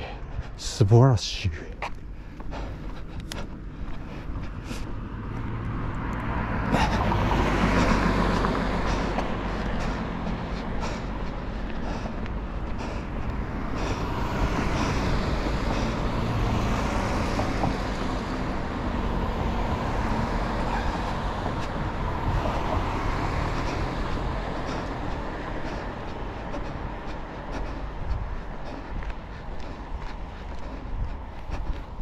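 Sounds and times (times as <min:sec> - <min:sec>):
cars driving past: 0:01.9 - 0:32.0.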